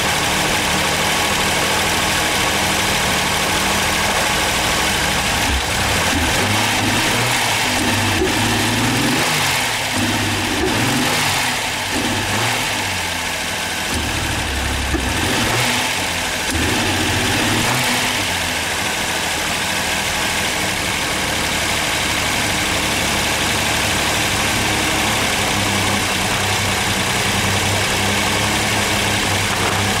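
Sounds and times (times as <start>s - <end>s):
car engine idling unevenly: 0.0s - 30.0s.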